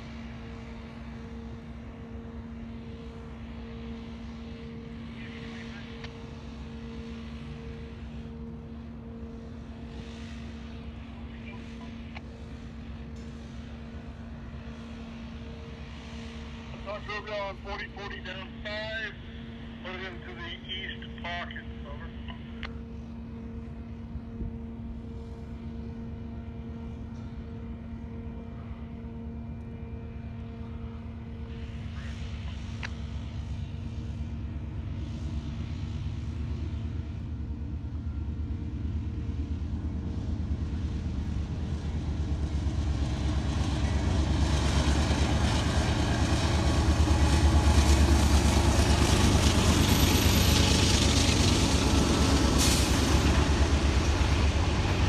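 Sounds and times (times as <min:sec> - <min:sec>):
diesel locomotive engine rumble: 0:00.0 - 0:55.0
rail and wheel noise: 0:00.0 - 0:55.0.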